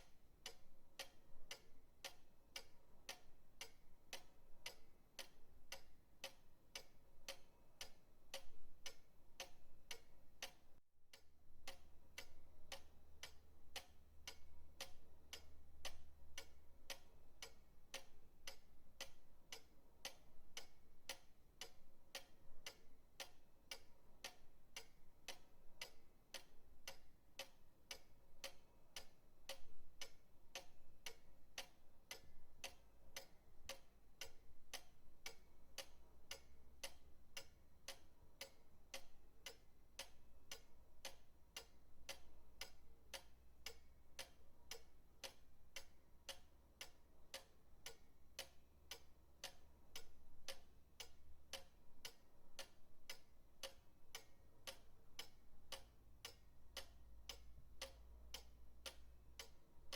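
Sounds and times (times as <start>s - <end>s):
pendulum clock ticking: 0.0s - 59.9s.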